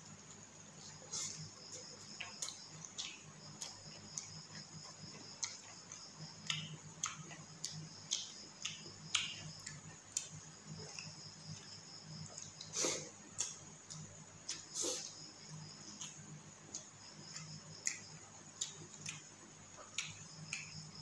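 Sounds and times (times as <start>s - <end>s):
wet chewing and lip-smacking: 0.3s - 21.0s.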